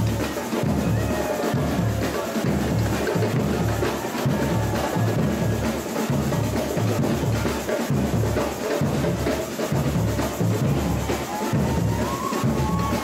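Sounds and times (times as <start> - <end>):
snare drums: 0.0 - 13.0.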